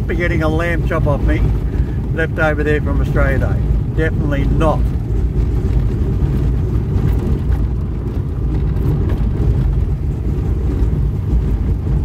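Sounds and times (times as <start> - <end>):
car engine and tyres rumbling: 0.0 - 12.0
faint rattles: 0.0 - 12.0.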